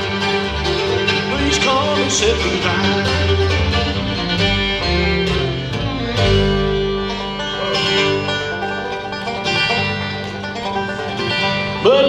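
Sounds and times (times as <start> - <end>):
banjo picking: 0.0 - 12.0
guitar picking: 0.0 - 12.0
upright bass: 0.0 - 12.0.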